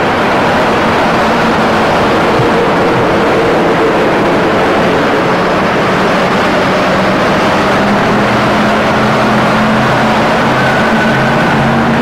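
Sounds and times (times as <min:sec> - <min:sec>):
bus engine passing: 0:00.0 - 0:12.0
traffic and street noise: 0:00.0 - 0:12.0.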